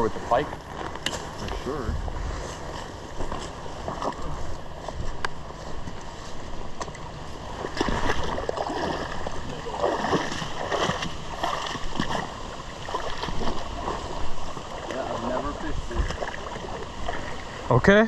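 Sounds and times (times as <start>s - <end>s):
stream water splashing and gurgling: 0.0s - 18.0s.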